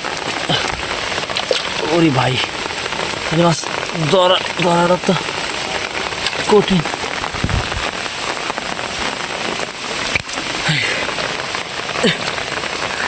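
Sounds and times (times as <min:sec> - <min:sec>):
rain falling on ground and water: 0:00.0 - 0:13.0.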